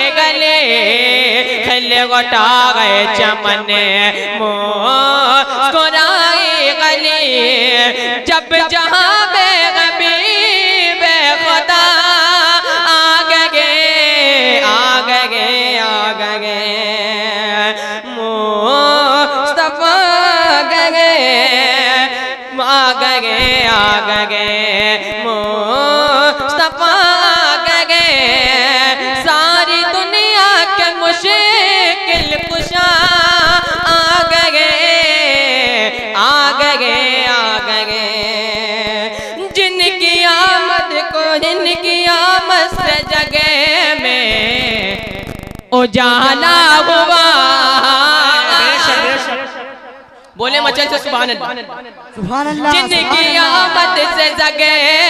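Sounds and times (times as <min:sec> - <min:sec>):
boy singing into a microphone: 0:00.0 - 0:55.0.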